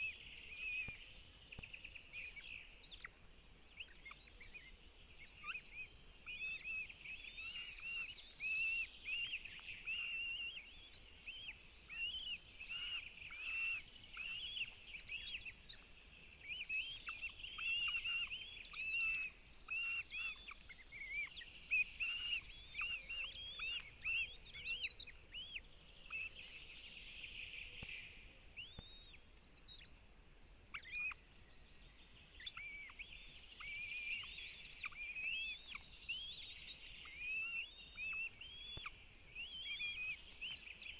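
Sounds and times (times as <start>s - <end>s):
hawk chicks chirping: 0.0s - 29.9s, 32.3s - 40.9s.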